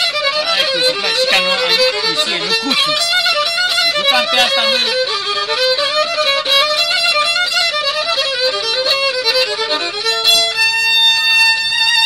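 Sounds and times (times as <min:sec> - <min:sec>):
solo violin melody: 0:00.0 - 0:12.0.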